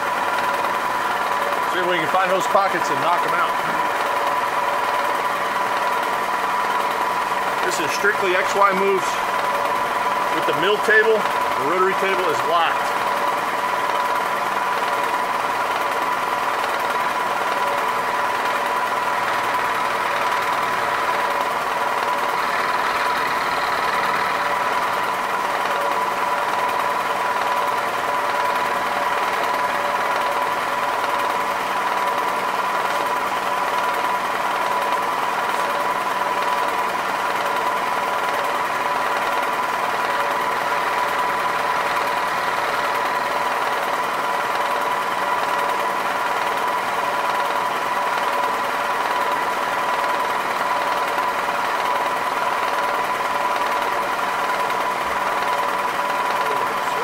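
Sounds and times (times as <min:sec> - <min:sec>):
milling machine whine: 0:00.0 - 0:57.0.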